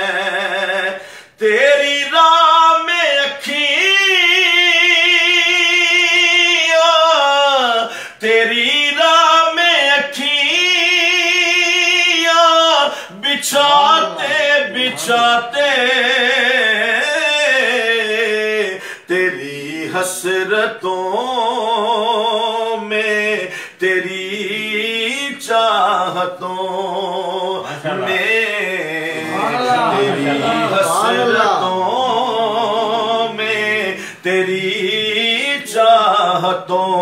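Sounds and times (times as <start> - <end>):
man singing unaccompanied: 0.0 - 37.0.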